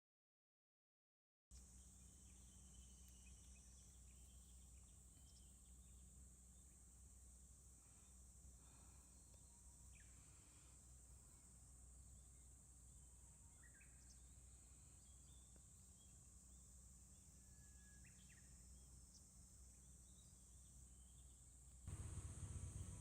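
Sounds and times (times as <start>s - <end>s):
faint bird chirps: 1.5s - 6.9s, 7.7s - 11.5s, 13.4s - 23.0s
insect drone: 1.5s - 23.0s.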